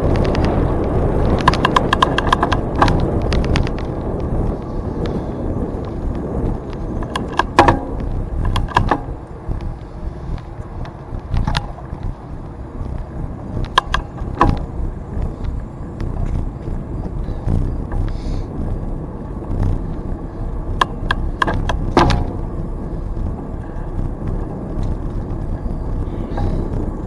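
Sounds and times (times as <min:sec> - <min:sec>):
bicycle tyres rolling on trail: 0:00.0 - 0:27.0
sharp clicks and rattles: 0:00.0 - 0:27.0
wind on microphone: 0:00.0 - 0:27.0.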